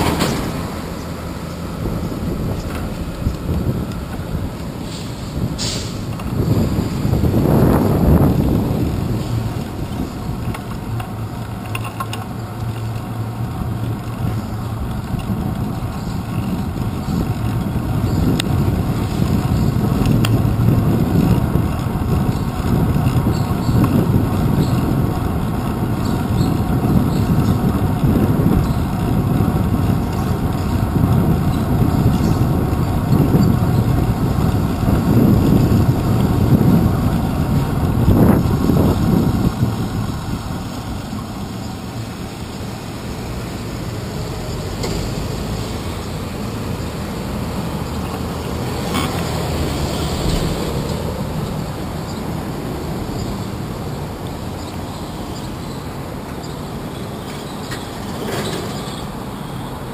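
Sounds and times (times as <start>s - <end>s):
wind buffeting microphone: 0.0s - 56.8s
bicycle rumbling and rattling: 0.0s - 59.9s.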